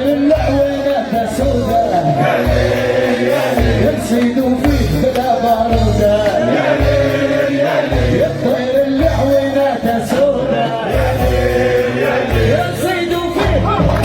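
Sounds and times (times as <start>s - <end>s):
band playing: 0.0s - 14.0s
heavy bass beat: 0.0s - 14.0s
man singing: 0.0s - 14.0s.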